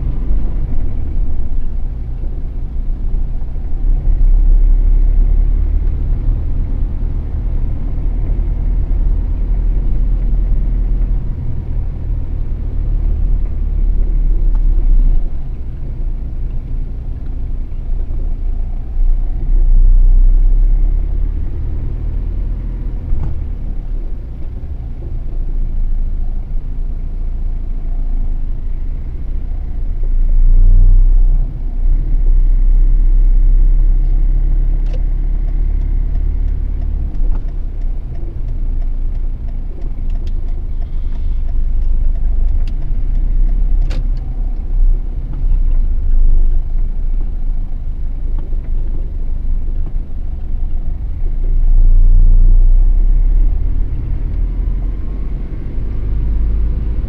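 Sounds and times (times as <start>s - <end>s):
vehicle road and engine rumble: 0.0s - 57.0s.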